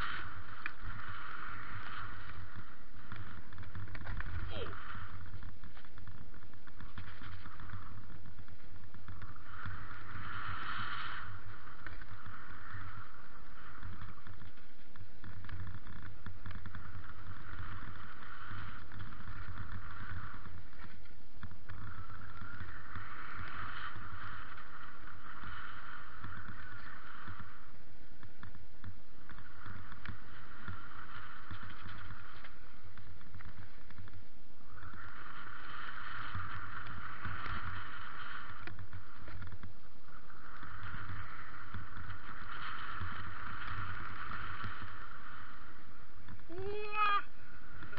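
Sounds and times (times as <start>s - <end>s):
bike tyres rumbling on gravel: 0.0s - 47.9s
wind rushing over microphone: 0.0s - 47.9s.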